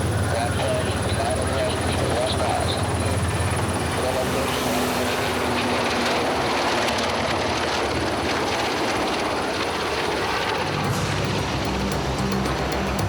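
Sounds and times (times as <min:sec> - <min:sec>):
helicopter rotor and engines: 0:00.0 - 0:13.0.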